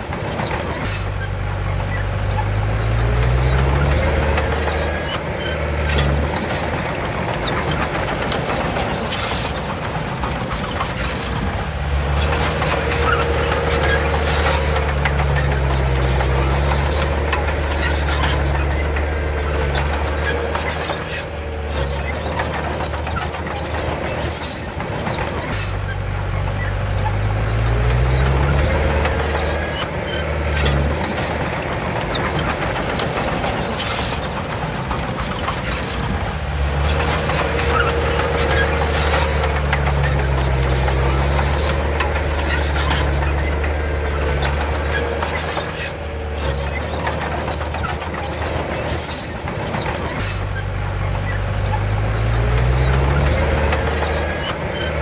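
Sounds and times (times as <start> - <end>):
bulldozer diesel engine working: 0.0 - 55.0
high squeal: 0.0 - 55.0.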